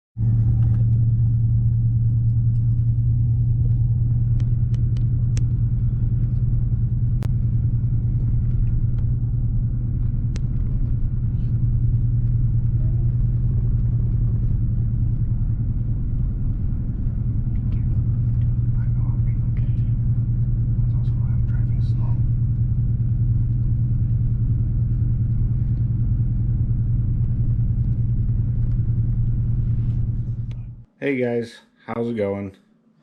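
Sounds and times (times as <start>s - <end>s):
car engine drone from cabin: 0.2s - 30.9s.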